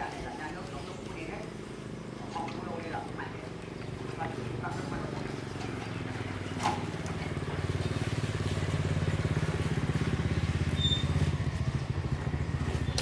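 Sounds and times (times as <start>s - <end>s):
small engine humming: 0.9s - 13.0s.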